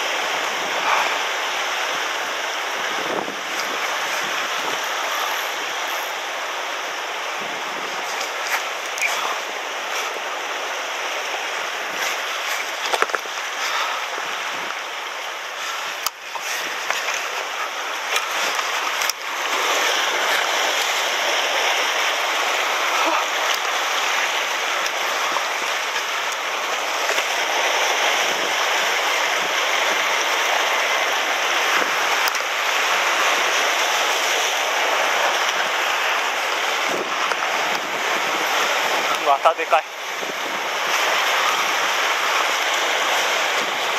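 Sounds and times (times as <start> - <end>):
sea surf washing over rocks: 0.0 - 43.9.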